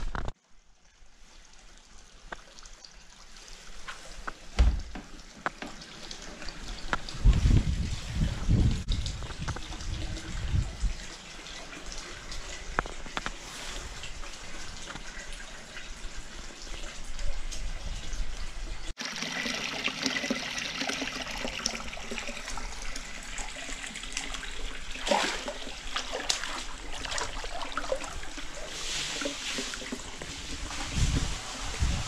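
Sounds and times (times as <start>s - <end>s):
water trickling and splashing: 0.3s - 32.0s.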